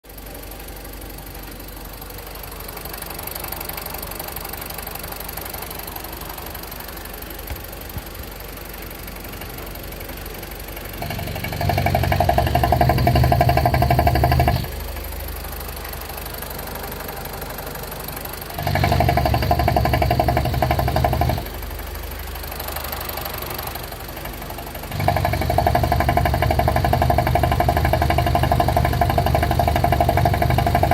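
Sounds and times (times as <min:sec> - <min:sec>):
petrol engine idling: 0:00.1 - 0:30.9.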